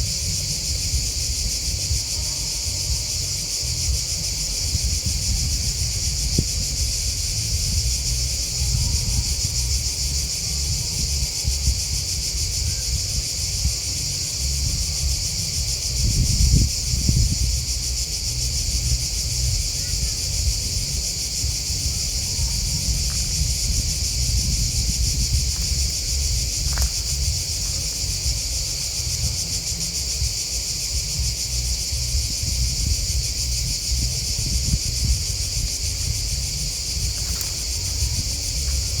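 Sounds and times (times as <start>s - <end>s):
crickets and grasshoppers chirping: 0.0s - 39.0s
low rumble: 2.7s - 39.0s.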